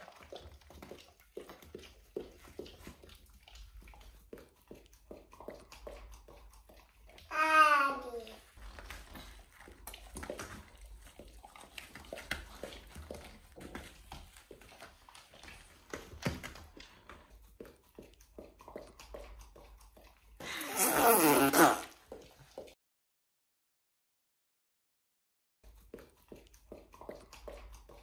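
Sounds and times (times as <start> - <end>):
dog licking and lapping: 0.0 - 22.8, 25.6 - 28.0.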